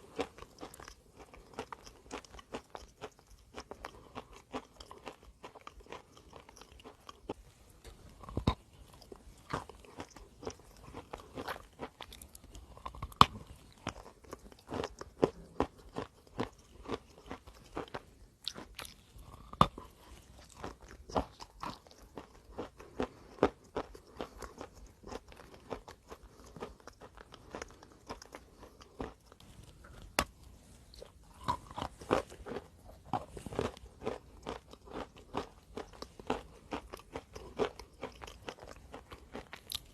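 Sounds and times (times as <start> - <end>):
chalk crunching while chewed: 0.0 - 39.9.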